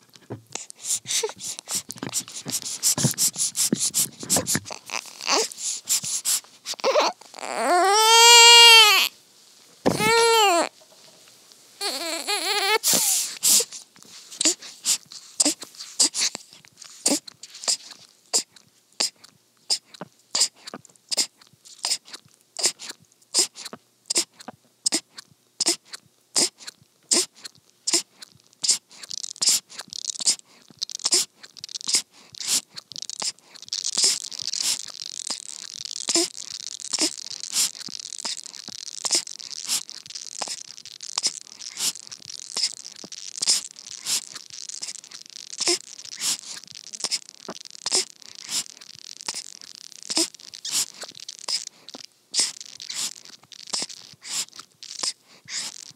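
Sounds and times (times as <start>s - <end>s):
steady high hiss: 0.0s - 55.9s
baby sucking from bottle: 0.1s - 9.1s, 9.9s - 10.7s, 11.8s - 55.9s.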